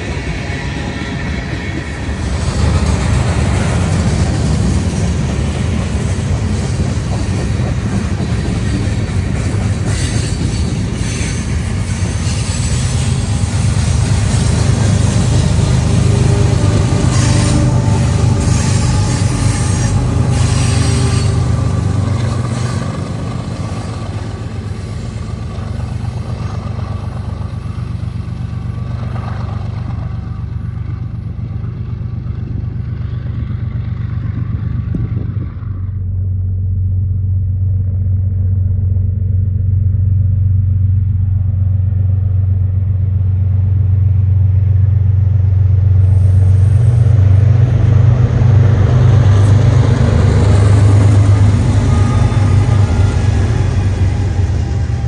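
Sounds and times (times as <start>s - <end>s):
diesel locomotive engine drone: 0.0s - 55.0s
rail and wheel noise: 0.0s - 55.0s.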